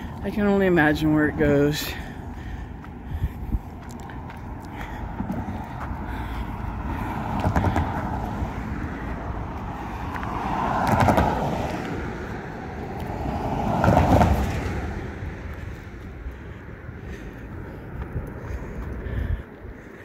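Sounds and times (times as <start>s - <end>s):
cars passing by: 0.0s - 20.0s.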